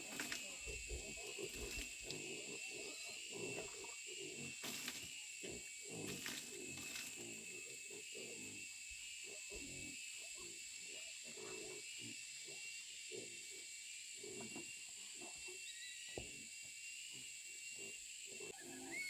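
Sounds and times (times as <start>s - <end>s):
young wild boars grunting: 0.0s - 15.7s
faint high-pitched hum: 0.0s - 19.0s.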